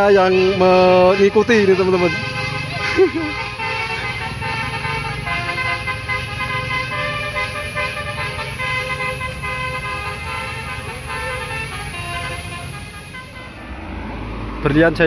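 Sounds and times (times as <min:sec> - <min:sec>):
musical air horn playing a tune: 0:00.0 - 0:13.7
bus engine rumble: 0:00.0 - 0:15.0.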